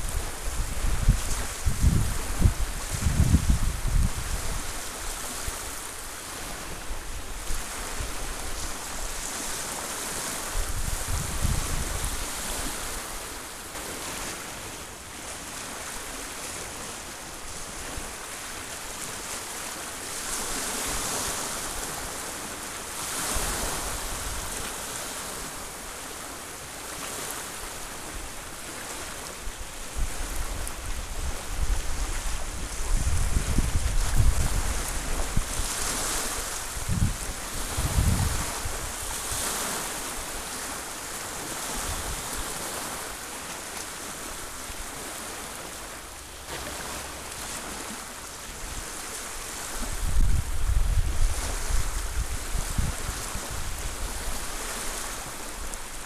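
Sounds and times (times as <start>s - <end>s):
wind rumble on microphone: 0.0s - 14.3s, 15.2s - 25.6s, 26.8s - 43.0s, 46.5s - 56.0s
waves lapping onto beach: 0.0s - 56.0s.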